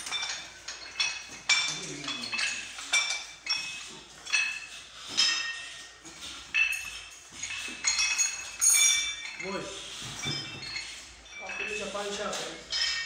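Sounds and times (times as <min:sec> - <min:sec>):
weight plates clinking: 0:00.0 - 0:13.0.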